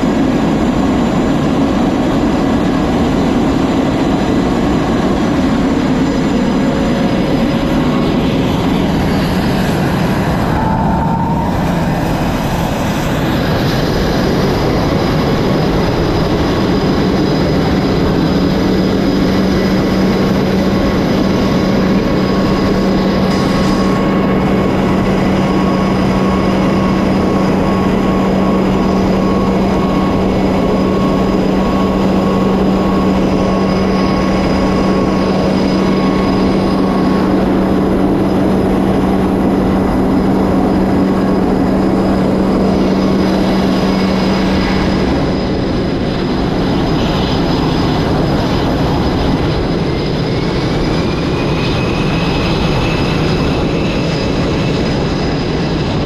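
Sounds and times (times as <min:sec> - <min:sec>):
faint rising whine: 0:00.0 - 0:56.0
jet engines roaring: 0:00.0 - 0:56.0
strong steady hum: 0:00.0 - 0:56.0.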